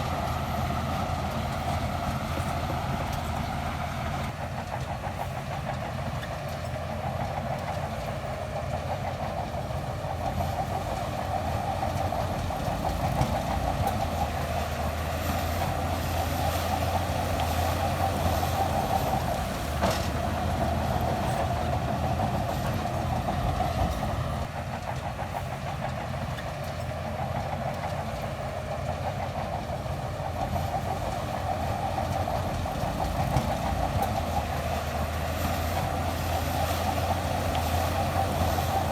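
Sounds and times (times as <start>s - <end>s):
bulldozer diesel engine: 0.0s - 38.9s
steel tracks clattering: 0.0s - 38.9s.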